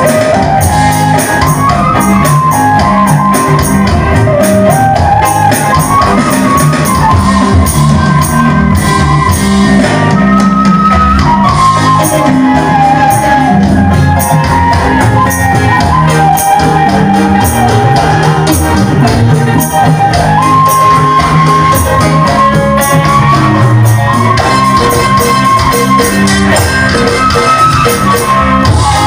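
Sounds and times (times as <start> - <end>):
bending lead melody: 0.0 - 29.0
drums: 0.0 - 29.0
electric bass: 0.0 - 29.0
electric guitars: 0.0 - 29.0
keyboard: 0.0 - 29.0.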